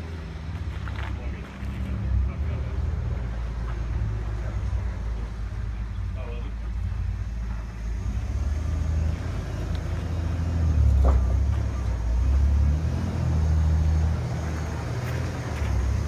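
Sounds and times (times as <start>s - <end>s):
truck engine pulling: 0.0s - 16.0s.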